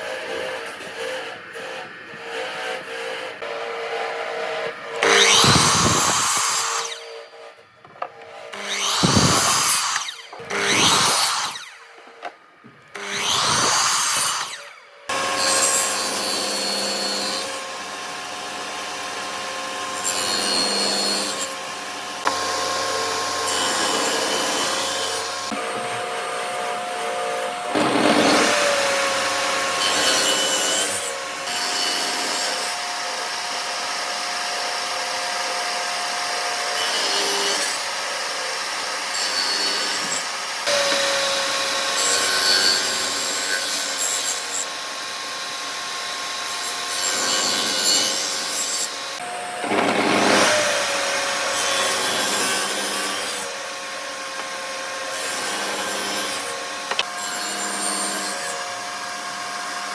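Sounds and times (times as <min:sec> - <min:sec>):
power tool cutting wood: 0:00.0 - 0:59.9.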